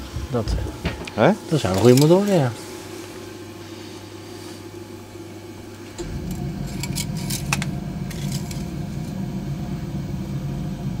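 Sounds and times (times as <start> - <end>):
low machine rumble: 0.0 - 11.0.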